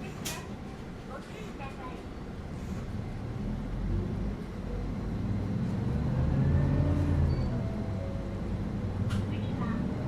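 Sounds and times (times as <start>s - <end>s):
bus engine drone: 0.0s - 10.0s.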